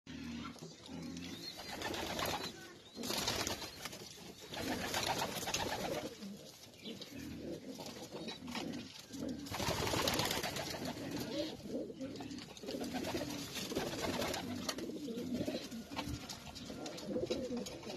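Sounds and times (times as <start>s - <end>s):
pigeons cooing: 0.1s - 3.6s, 4.2s - 17.9s.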